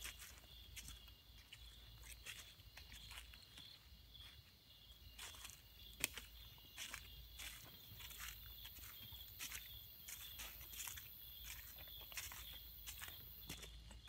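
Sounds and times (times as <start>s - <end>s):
footsteps crunching dry leaves: 0.0s - 14.0s
high insect trill: 0.0s - 14.0s.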